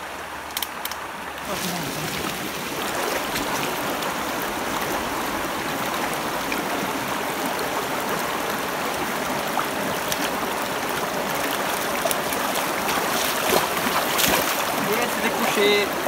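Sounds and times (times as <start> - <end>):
river flowing over stones: 0.0 - 16.0.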